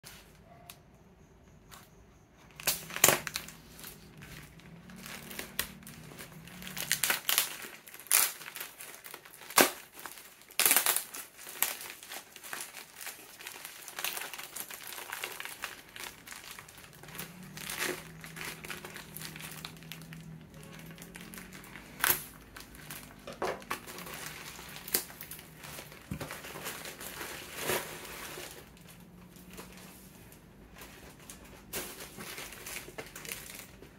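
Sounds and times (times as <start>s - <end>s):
plastic packaging crinkling: 2.4s - 33.9s.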